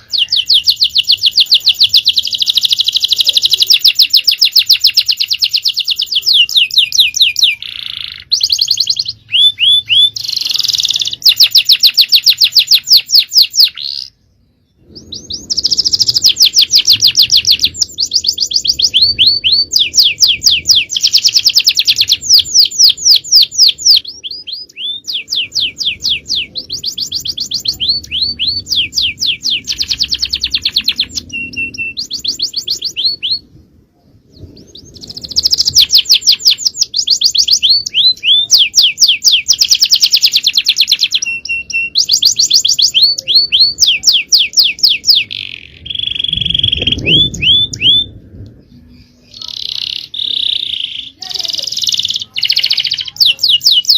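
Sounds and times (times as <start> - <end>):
canary singing trills: 0.0 - 33.6, 34.3 - 53.9.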